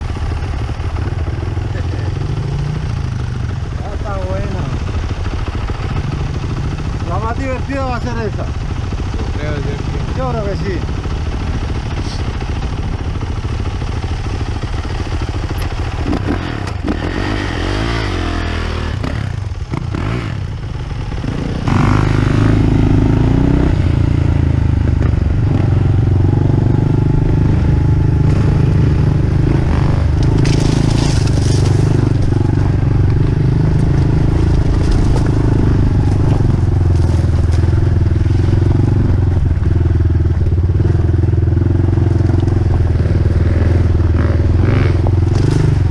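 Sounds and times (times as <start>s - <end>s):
dirt bike engine revving: 0.1s - 45.9s.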